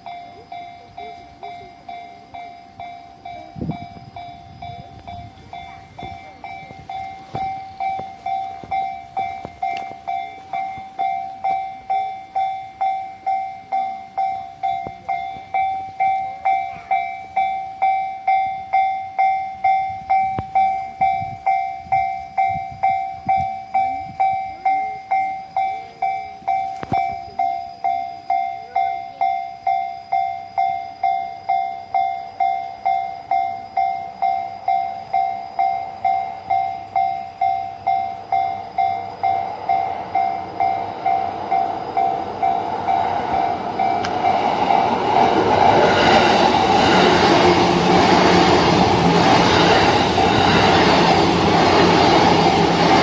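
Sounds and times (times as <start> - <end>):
level crossing warning bell ringing: 0.0 - 53.0
train rumbling faintly: 0.0 - 53.0.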